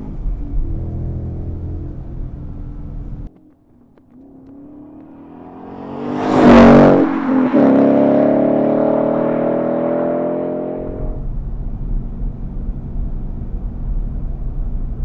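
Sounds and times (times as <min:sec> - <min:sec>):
car engine accelerating hard: 0:00.0 - 0:03.3, 0:04.1 - 0:15.0.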